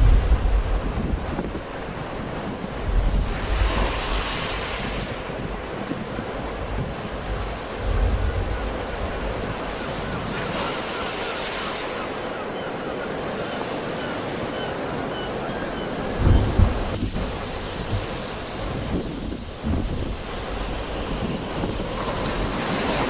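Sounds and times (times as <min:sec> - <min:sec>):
wind buffeting microphone: 0:00.0 - 0:12.3, 0:14.3 - 0:23.0
sea waves washing on shore: 0:00.0 - 0:23.0.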